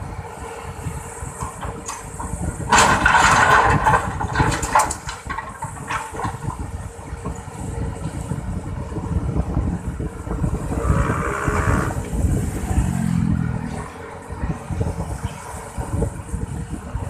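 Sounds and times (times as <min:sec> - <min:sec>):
excavator engine rumbling: 0:00.0 - 0:17.0.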